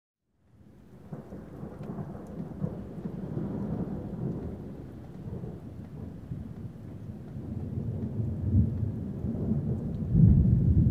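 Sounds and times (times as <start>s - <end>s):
rolling thunder rumble: 0.6s - 10.9s.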